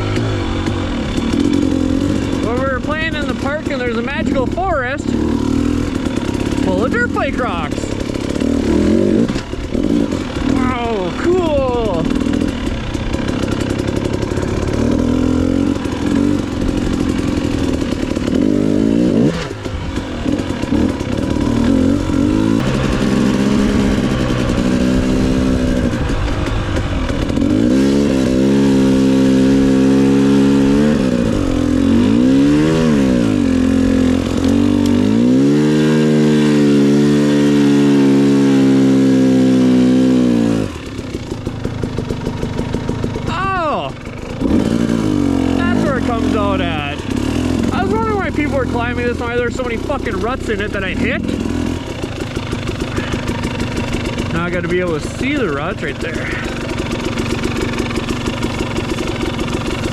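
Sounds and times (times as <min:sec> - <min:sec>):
two-stroke dirt bike revving: 0:00.0 - 0:59.9.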